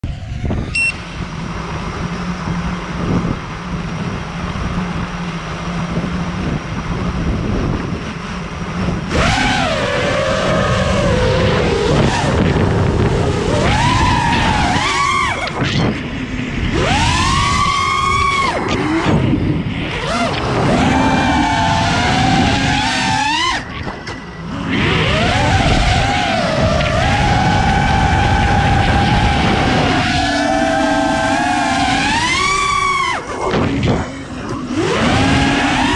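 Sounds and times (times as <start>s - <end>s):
low hum: 0.0s - 35.9s
quadcopter motors whining: 0.0s - 35.9s
rushing noise: 0.0s - 35.9s.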